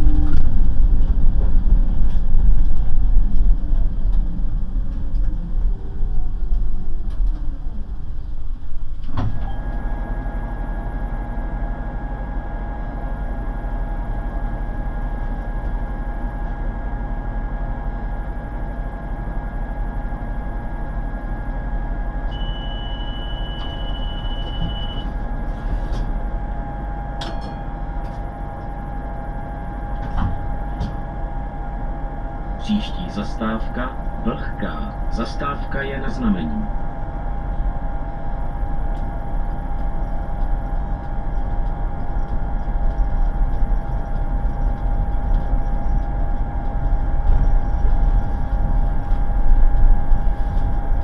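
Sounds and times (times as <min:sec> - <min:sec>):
electrical hum and whine: 0:00.0 - 0:51.0
tram running on track: 0:00.0 - 0:51.0.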